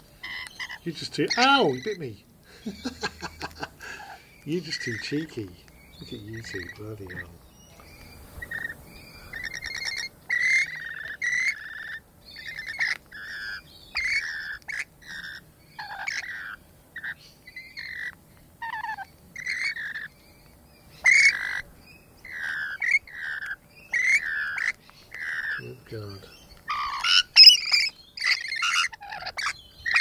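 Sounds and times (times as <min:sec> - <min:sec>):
parrots chattering: 0:00.0 - 0:30.0.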